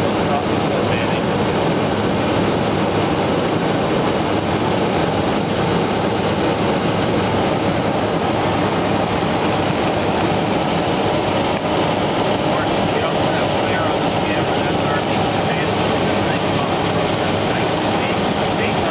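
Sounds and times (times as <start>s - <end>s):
aircraft cabin engine and airflow noise: 0.0s - 18.9s.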